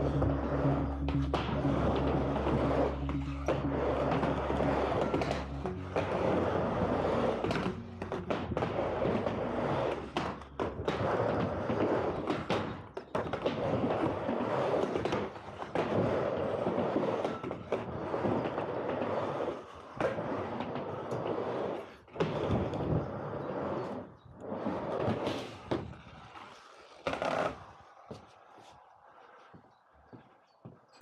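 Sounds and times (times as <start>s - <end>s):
skateboard wheels rolling on concrete: 0.0s - 31.0s.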